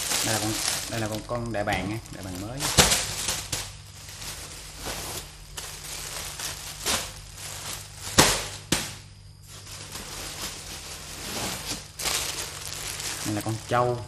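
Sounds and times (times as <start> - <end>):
plastic wrapping crinkling: 0.0 - 14.0
steady low hum: 0.0 - 14.0.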